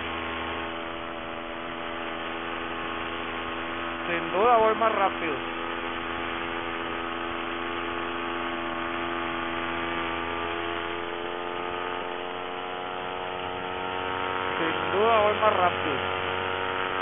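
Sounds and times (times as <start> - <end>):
paramotor engine and propeller humming: 0.0 - 17.0.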